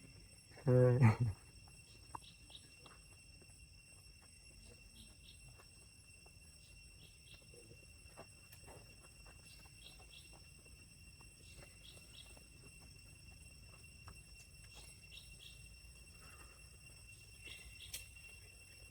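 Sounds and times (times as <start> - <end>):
soft paired chirps: 0.6 - 3.6, 4.3 - 18.9.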